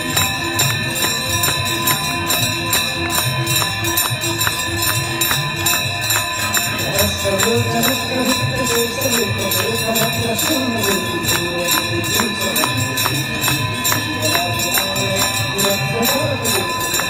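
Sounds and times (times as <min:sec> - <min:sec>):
hand bells ringing: 0:00.0 - 0:17.0.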